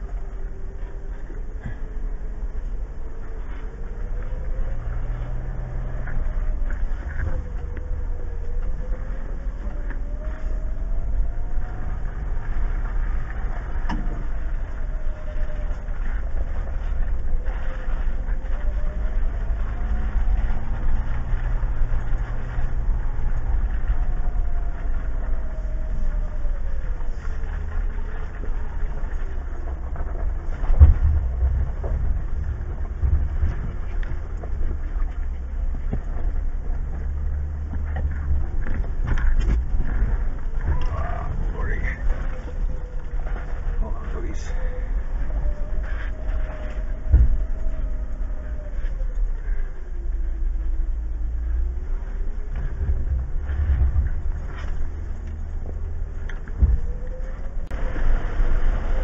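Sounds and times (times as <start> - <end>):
car engine rumbling at crawl: 0.0 - 59.0
faint whine: 0.0 - 59.0.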